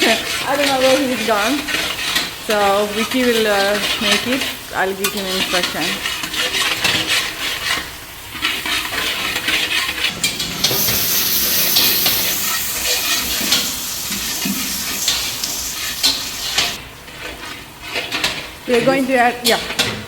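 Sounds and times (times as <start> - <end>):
utensil scraping a pan: 0.0 - 19.2
onions sizzling in a frying pan: 0.0 - 19.7.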